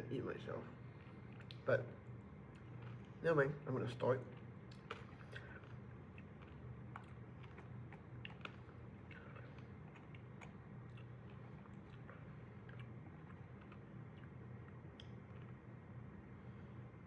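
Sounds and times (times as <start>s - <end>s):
low steady hum: 0.0s - 17.0s
soft squelches of fruit pulp: 0.0s - 17.0s.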